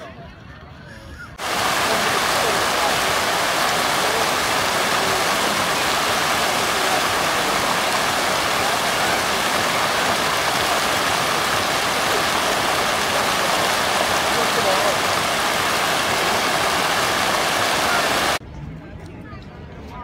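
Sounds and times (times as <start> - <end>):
fountain water splashing: 1.4 - 18.4.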